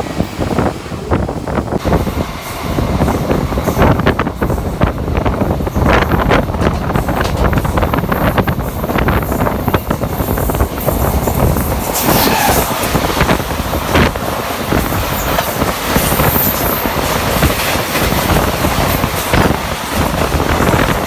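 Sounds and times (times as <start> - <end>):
train coach rumble: 0.0 - 21.0
wind on microphone: 0.0 - 21.0
wheels clacking over rail joints: 2.5 - 21.0.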